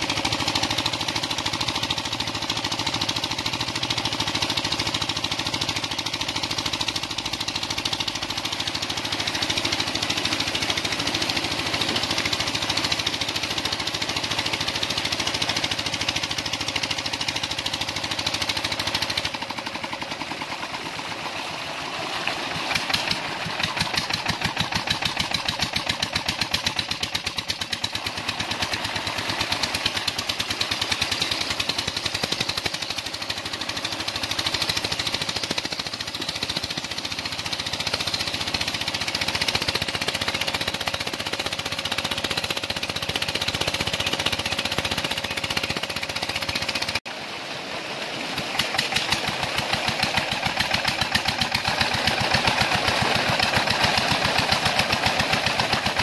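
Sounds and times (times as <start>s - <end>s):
diesel pump engine running: 0.0s - 56.0s.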